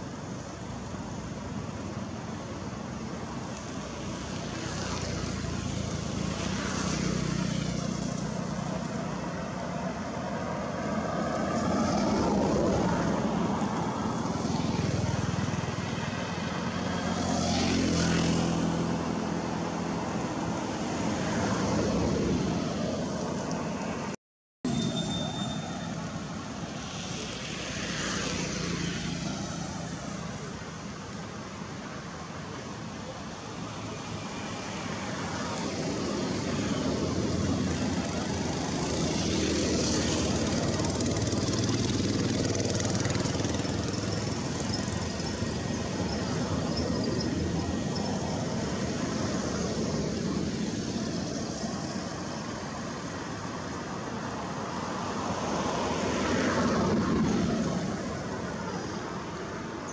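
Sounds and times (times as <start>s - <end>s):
passing vehicle engines: 0.0s - 59.9s.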